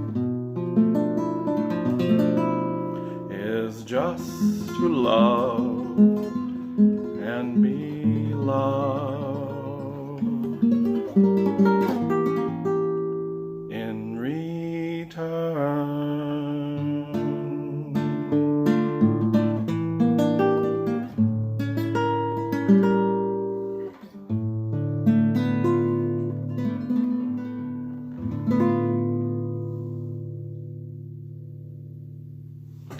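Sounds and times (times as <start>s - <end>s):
acoustic guitar playing: 0.0s - 32.9s.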